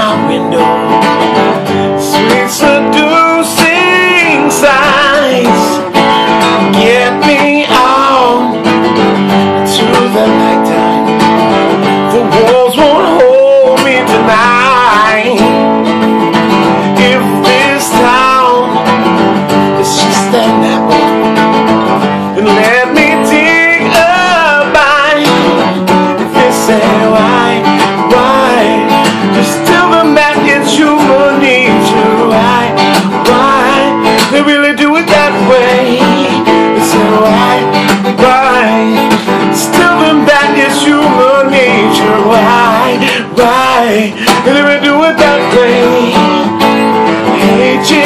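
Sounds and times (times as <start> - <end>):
strummed acoustic guitar: 0.0 - 48.0.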